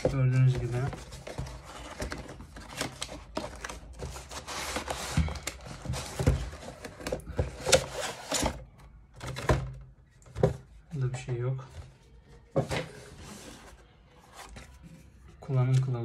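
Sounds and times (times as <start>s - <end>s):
cardboard rustling and scraping: 0.0s - 8.6s, 10.3s - 15.8s.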